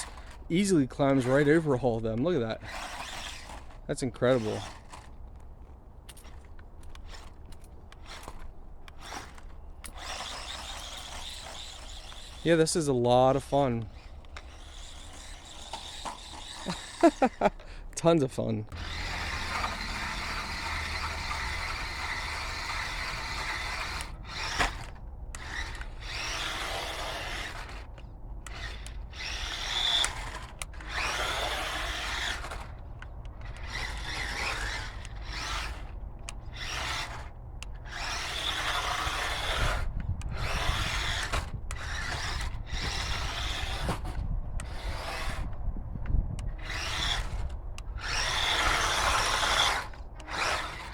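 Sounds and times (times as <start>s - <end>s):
toy truck motor whining: 0.0s - 18.0s, 18.7s - 45.6s, 46.4s - 50.9s.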